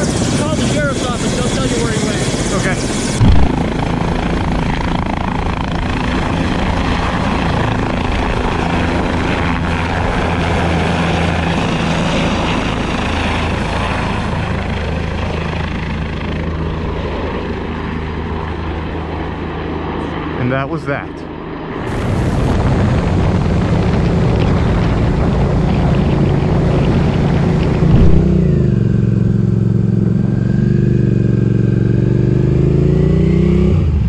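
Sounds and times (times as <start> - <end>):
helicopter rotor and engine drone: 0.0 - 34.0.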